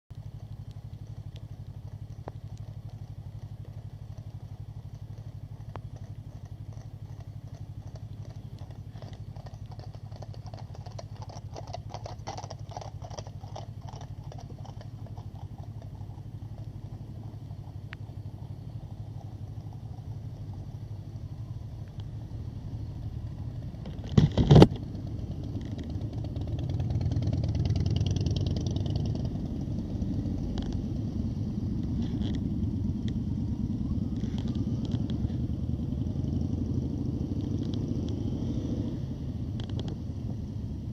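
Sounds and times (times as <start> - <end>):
motorcycle engine idling: 0.1 - 38.4.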